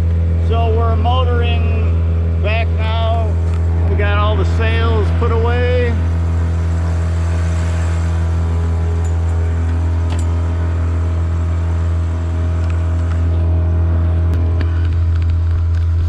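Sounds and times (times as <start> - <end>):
boat engine humming steadily: 0.0 - 16.0.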